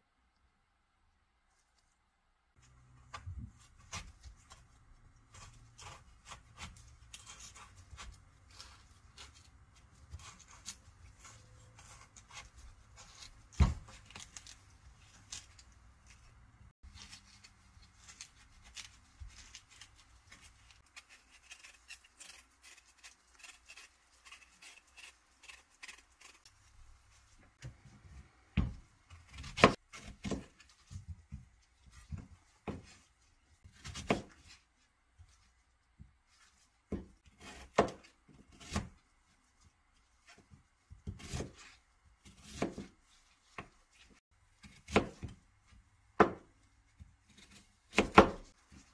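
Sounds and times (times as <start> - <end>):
knife peeling fruit: 1.5 - 48.9.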